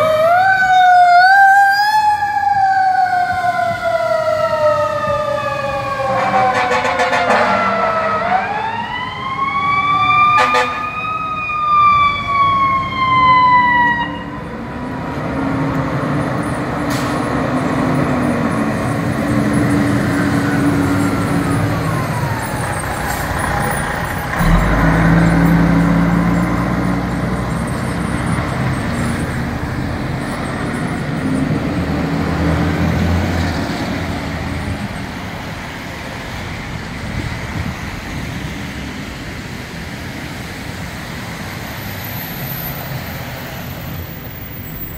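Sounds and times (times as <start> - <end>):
fire engine siren wailing: 0.0 - 44.9
truck engine drone: 0.0 - 44.9.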